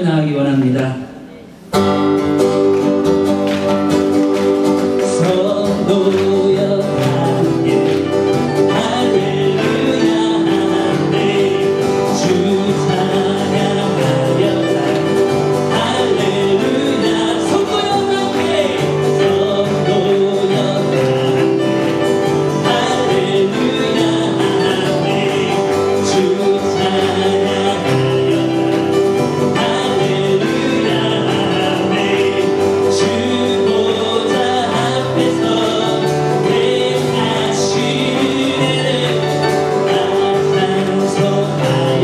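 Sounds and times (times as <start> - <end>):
acoustic guitar strumming: 1.3 - 42.0
person singing: 4.0 - 42.0.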